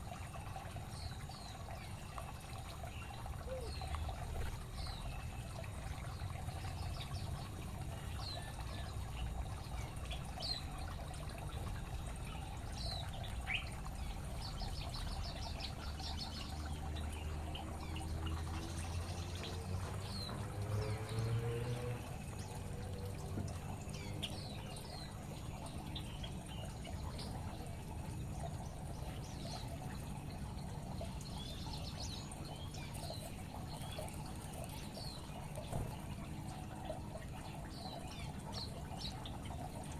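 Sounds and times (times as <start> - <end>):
water trickling: 0.0 - 39.9
small birds chirping: 0.1 - 39.9.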